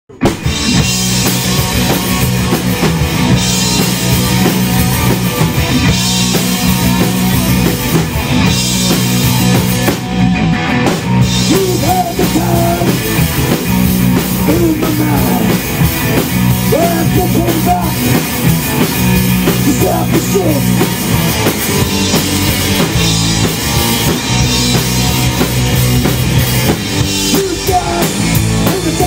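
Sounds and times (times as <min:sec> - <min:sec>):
drum kit beat: 0:00.1 - 0:29.0
rock band playing: 0:00.1 - 0:29.0.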